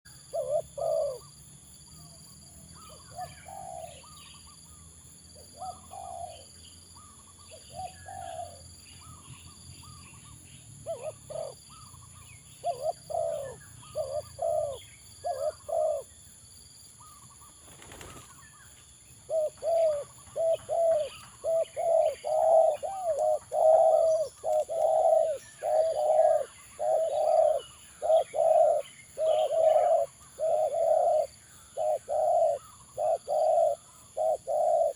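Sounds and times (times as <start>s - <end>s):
doves cooing: 0.1s - 1.4s, 2.8s - 4.6s, 5.4s - 16.1s, 17.0s - 18.6s, 19.2s - 34.9s
small birds chirping: 0.1s - 34.9s.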